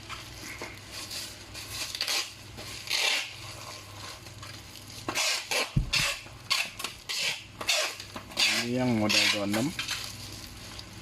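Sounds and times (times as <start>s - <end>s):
handling scrapes and rustles: 0.0s - 11.0s.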